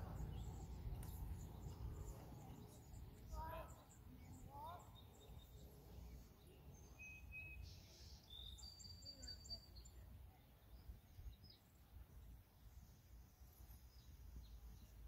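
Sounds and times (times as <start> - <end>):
faint bird chirps: 0.0 - 12.8.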